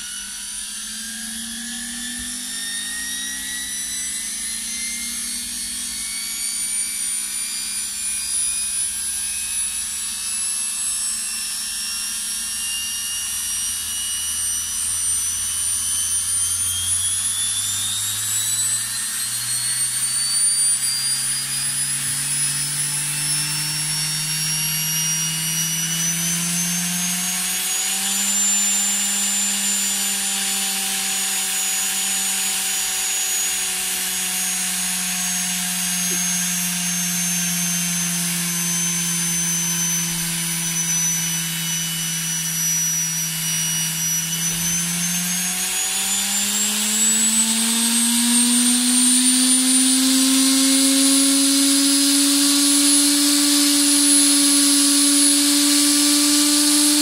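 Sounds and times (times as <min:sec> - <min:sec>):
electric motor whine rising: 0:00.0 - 0:57.0.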